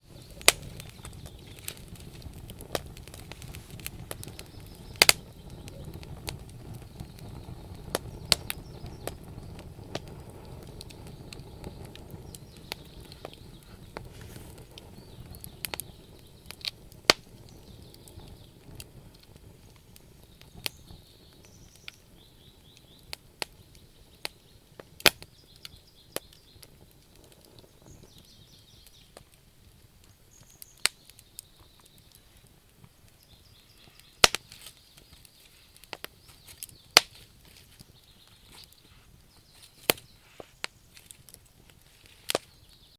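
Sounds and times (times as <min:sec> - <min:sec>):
firewood crackling and popping: 0:00.0 - 0:42.9
low rush of flame: 0:00.0 - 0:42.9.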